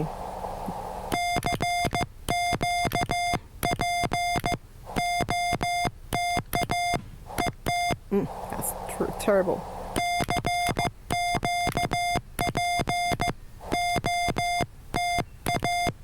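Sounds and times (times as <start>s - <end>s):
morse code tone: 1.1s - 8.0s, 9.9s - 16.0s.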